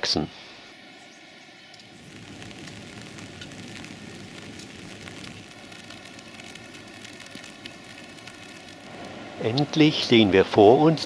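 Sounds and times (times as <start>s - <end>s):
steady outdoor hiss: 0.0s - 11.0s
faint crackles: 0.5s - 11.0s.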